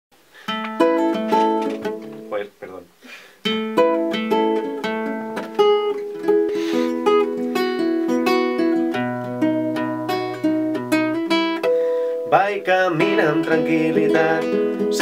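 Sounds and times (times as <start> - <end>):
classical guitar playing: 0.5 - 2.4, 3.4 - 15.0.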